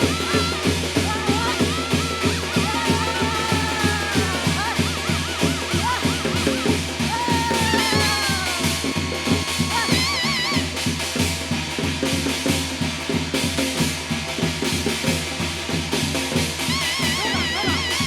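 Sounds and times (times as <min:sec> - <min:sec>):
fast drumming: 0:00.0 - 0:18.0.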